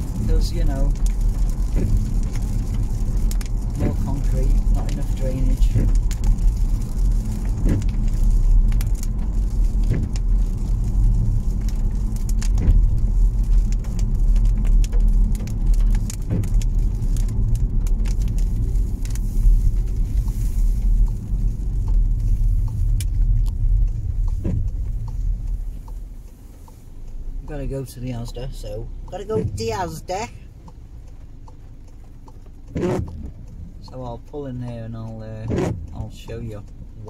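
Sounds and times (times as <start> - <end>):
engine and tyre rumble: 0.0 - 37.0.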